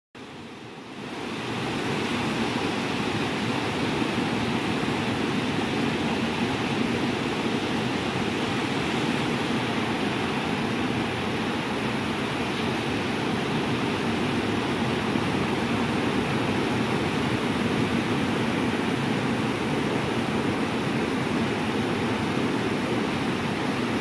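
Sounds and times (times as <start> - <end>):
waves washing over sand: 0.2 - 24.0.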